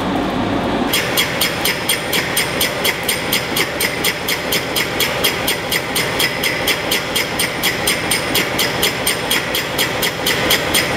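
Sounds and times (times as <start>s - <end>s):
machine running: 0.0s - 10.9s
high-pitched clicks: 0.9s - 10.9s.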